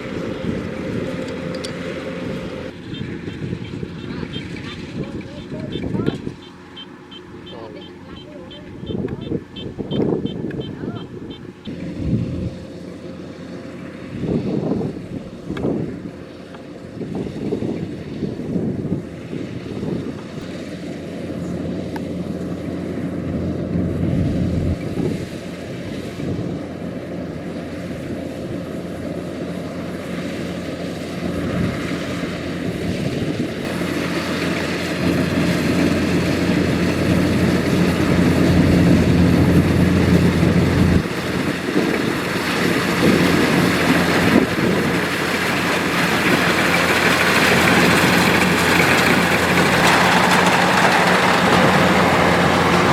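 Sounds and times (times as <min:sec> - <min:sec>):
combine harvester drone: 0:00.0 - 0:52.9.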